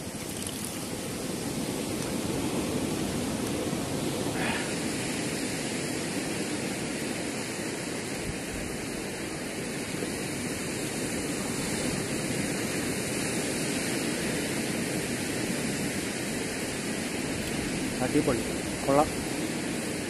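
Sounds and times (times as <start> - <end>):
sea surf rushing: 0.0 - 20.0.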